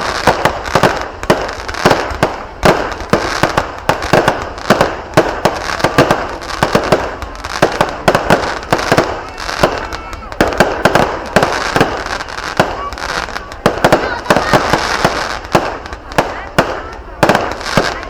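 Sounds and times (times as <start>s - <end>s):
fireworks bangs: 0.0s - 18.0s
fireworks crackle: 0.0s - 18.0s.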